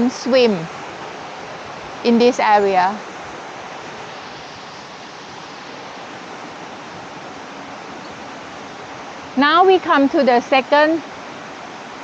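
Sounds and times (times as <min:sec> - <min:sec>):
water rushing over waterfall: 0:00.0 - 0:12.0.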